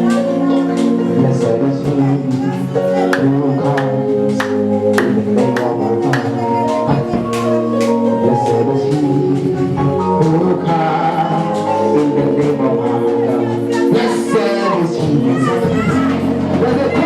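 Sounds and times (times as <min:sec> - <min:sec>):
long held chords: 0:00.0 - 0:17.0
percussion strikes: 0:00.0 - 0:17.0.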